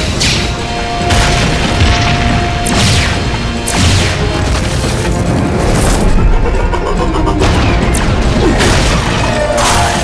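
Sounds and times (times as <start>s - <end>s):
action music: 0.0s - 10.0s.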